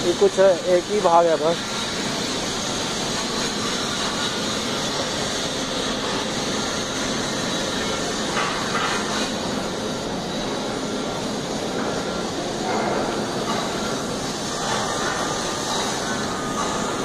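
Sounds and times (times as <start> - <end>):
rushing hiss of machinery: 0.0 - 17.0.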